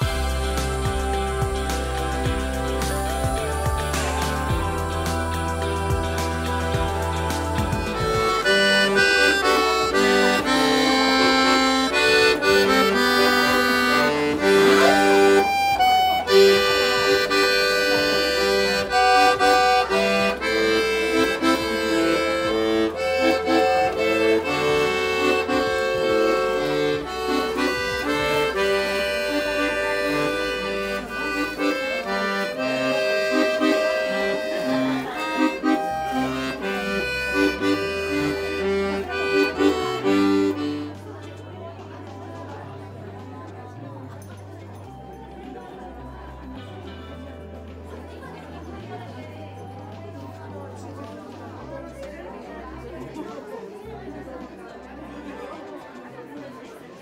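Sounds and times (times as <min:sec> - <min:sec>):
accordion playing a tune: 0:00.0 - 0:57.0.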